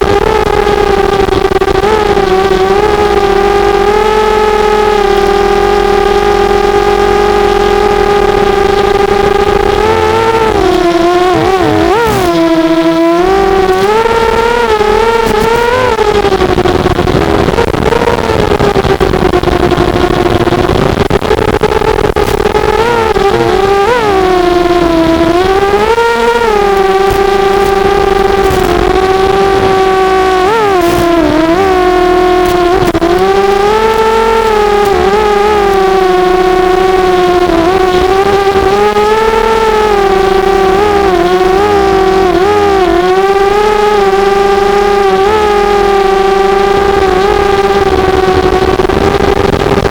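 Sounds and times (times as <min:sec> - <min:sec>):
drone motors whining: 0:00.0 - 0:49.9.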